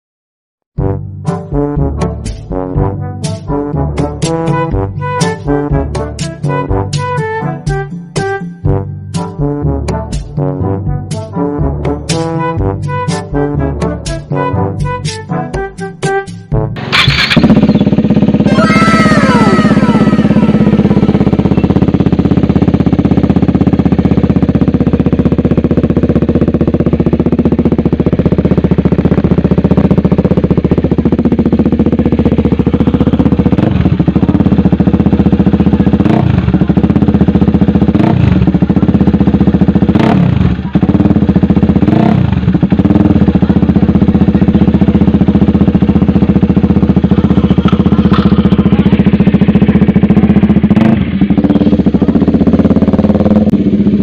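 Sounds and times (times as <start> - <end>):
motorcycle engine idling and revving: 0.8 - 54.0.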